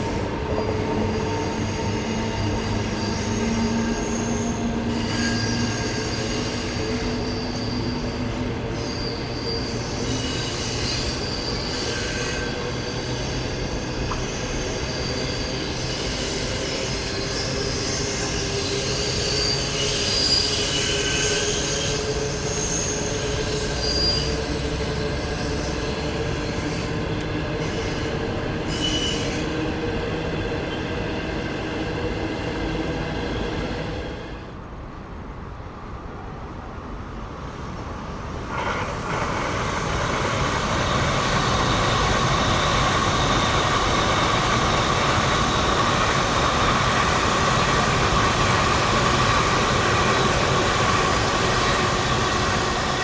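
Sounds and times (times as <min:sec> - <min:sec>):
train wheels squealing: 0:00.0 - 0:34.6, 0:37.4 - 0:53.0
train rumbling on rails: 0:00.0 - 0:53.0.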